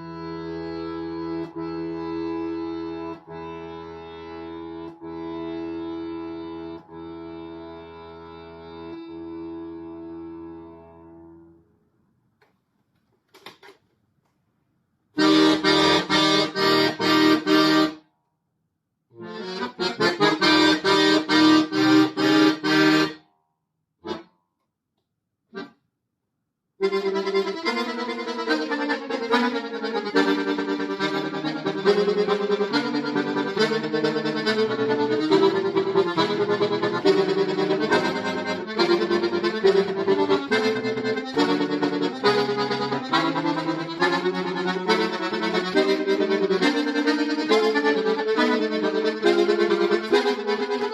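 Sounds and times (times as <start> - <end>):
solo accordion playing: 0.0 - 11.6, 15.2 - 18.0, 19.1 - 23.2, 24.0 - 24.3, 26.8 - 50.9.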